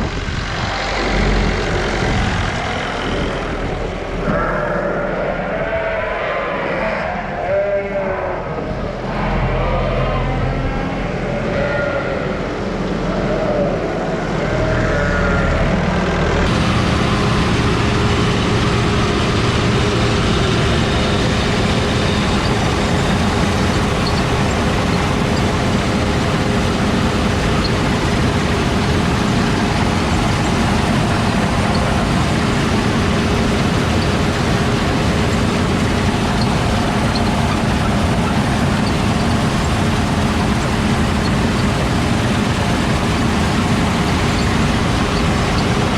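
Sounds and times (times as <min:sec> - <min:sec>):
heavy farm machinery running: 0:00.0 - 0:07.4, 0:08.2 - 0:45.9.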